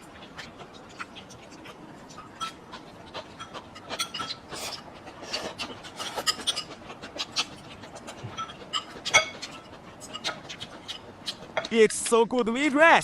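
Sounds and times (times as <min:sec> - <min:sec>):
wet chewing and mouth smacks: 0:00.0 - 0:11.7
utensils clicking against bowls: 0:00.3 - 0:12.2.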